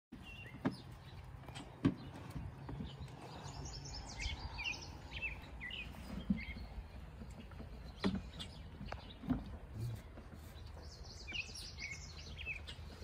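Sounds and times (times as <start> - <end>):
outdoor background noise: 0.1 - 13.0.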